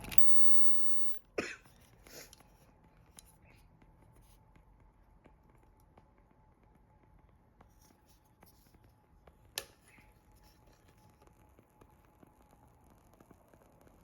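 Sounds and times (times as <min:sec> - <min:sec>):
small fire crackling: 0:00.0 - 0:14.0.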